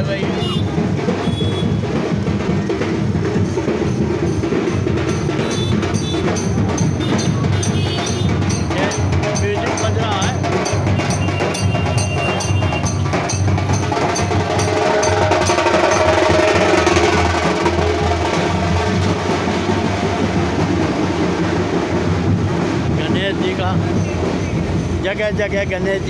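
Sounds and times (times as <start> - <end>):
large drums beaten fast: 0.0 - 26.0.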